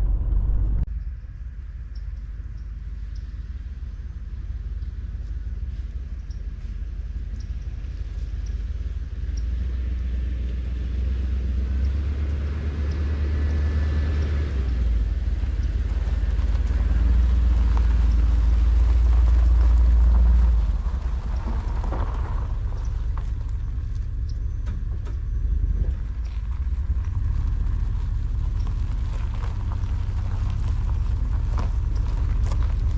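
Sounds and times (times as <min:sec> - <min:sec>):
van engine and road noise: 0:00.0 - 0:32.9.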